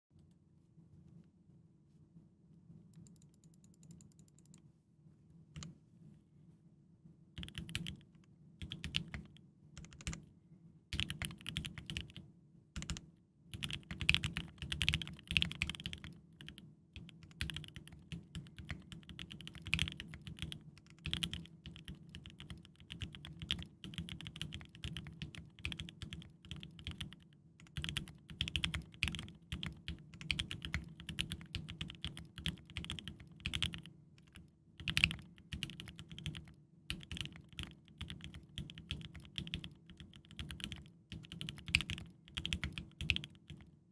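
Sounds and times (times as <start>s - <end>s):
mechanical keyboard typing: 3.0s - 4.6s, 7.4s - 10.2s, 10.9s - 12.2s, 12.8s - 43.7s.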